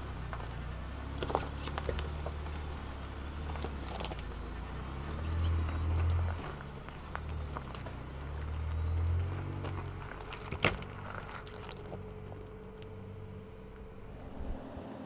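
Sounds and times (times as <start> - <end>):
truck engine running low: 0.0 - 15.0
tyres crunching on stones: 0.2 - 13.9.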